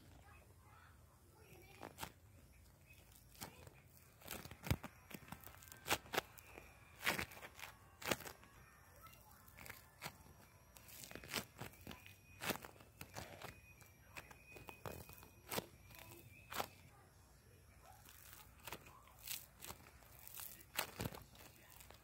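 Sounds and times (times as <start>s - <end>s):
slime crackling and popping: 1.4s - 17.0s, 17.8s - 22.0s.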